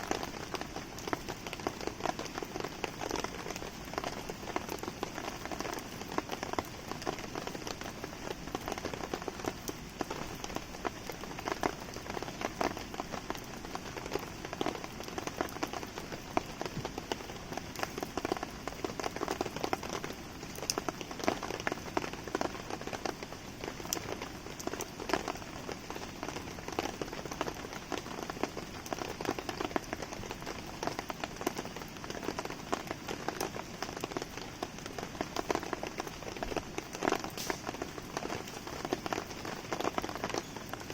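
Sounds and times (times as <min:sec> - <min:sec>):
campfire popping and crackling: 0:00.0 - 0:40.9
steady rain falling: 0:00.0 - 0:40.9.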